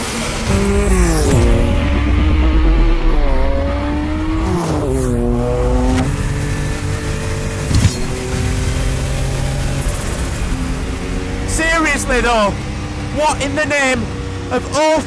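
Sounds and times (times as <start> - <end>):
race car engine passing by: 0.0 - 14.5.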